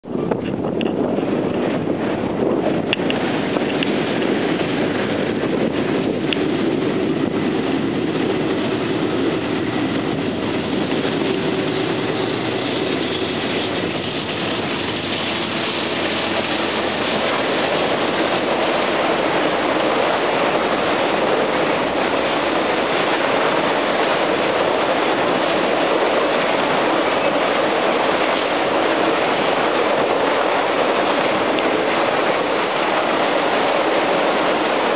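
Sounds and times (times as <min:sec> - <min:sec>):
diesel locomotives engine hum: 0:00.0 - 0:34.9
train wheel and rail noise: 0:00.1 - 0:34.9.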